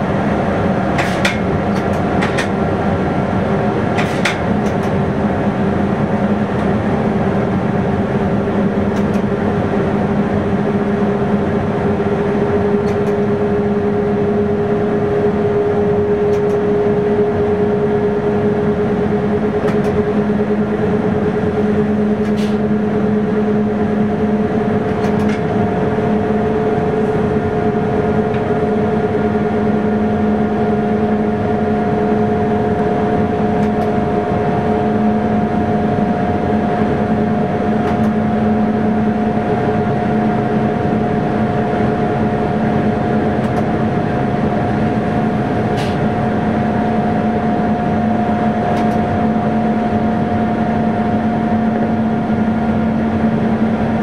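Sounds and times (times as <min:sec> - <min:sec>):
train engine hum: 0:00.0 - 0:54.0
train rumble: 0:00.0 - 0:54.0.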